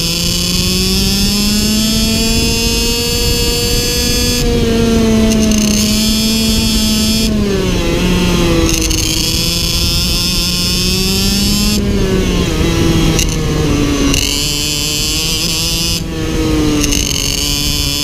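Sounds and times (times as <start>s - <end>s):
kart engine buzzing: 0.0s - 18.0s.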